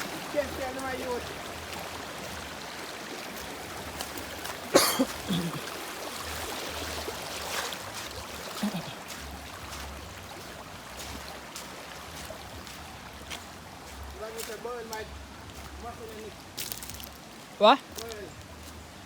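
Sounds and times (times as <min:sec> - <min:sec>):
river water running: 0:00.0 - 0:19.0.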